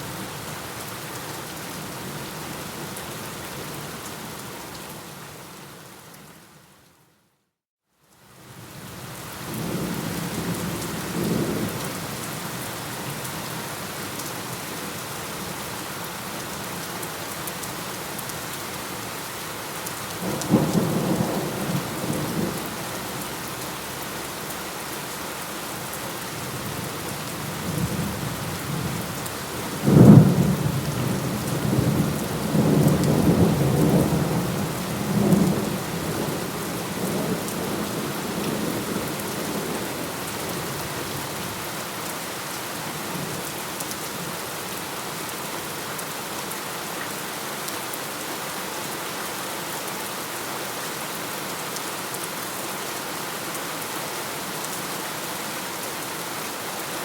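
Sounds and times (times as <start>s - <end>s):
steady rain falling: 0.0s - 7.2s, 7.9s - 57.0s.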